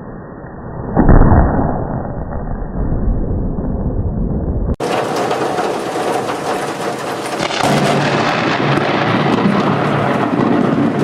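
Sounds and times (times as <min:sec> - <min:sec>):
thunder rumbling: 0:00.8 - 0:11.0.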